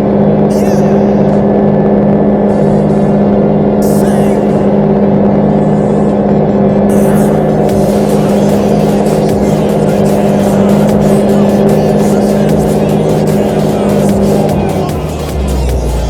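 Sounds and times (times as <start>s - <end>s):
tractor diesel engine droning: 0.0s - 16.0s.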